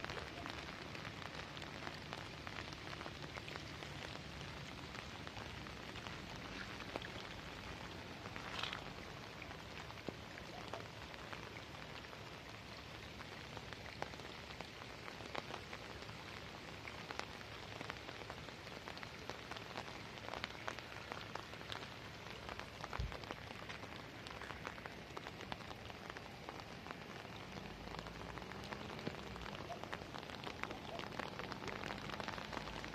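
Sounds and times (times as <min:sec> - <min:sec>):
rain falling on water: 0:00.0 - 0:32.9
sharp raindrop ticks: 0:00.0 - 0:32.9.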